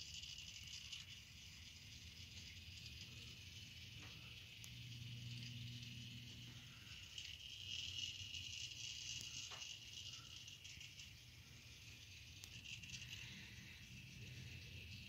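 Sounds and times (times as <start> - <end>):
low hum: 0.0 - 15.0
steady high hiss: 0.0 - 15.0.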